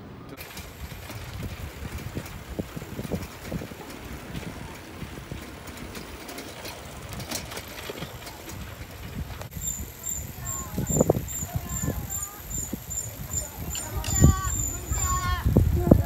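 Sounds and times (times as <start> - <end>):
bicycle tyres rumbling: 0.2 - 16.0
bike rattling: 0.2 - 16.0.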